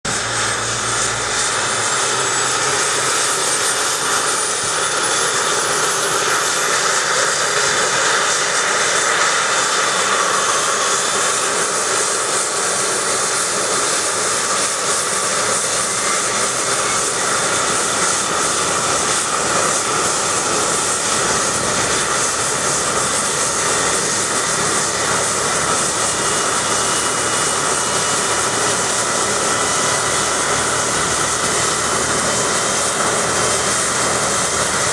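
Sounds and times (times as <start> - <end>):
helicopter rotor rush: 0.0 - 34.9
helicopter turbine whine: 0.0 - 34.9.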